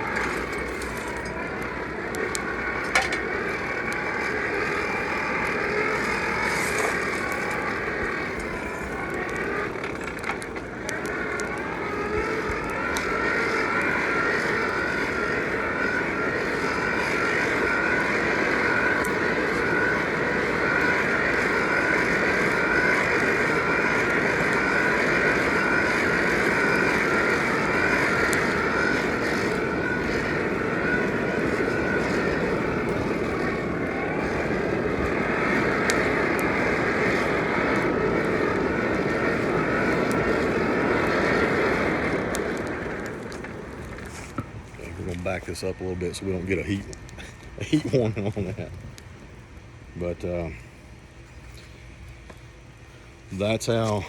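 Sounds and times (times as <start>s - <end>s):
air blower whirring: 0.0s - 54.0s
burning coal crackling: 0.0s - 54.0s.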